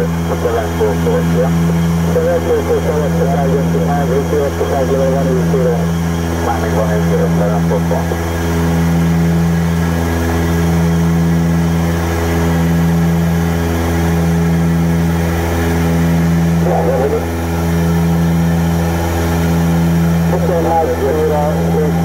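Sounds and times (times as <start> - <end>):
turboprop engines droning in cabin: 0.0 - 22.0.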